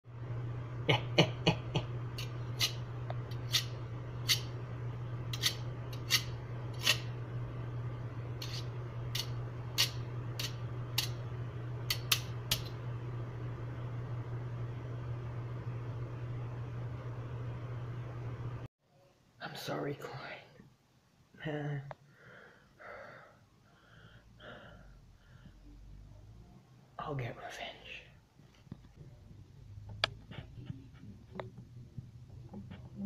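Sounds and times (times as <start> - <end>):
steady low hum: 0.1 - 18.7, 19.4 - 33.0.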